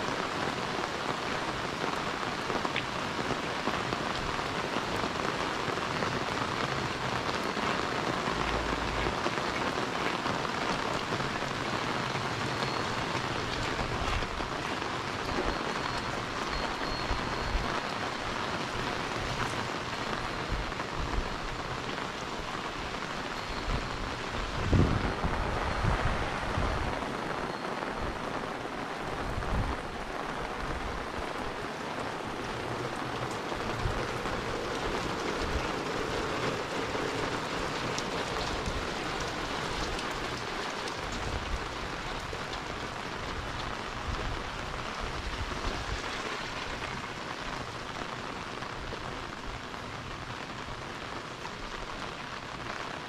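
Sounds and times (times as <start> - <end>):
heavy rain on paved road: 0.0 - 53.0.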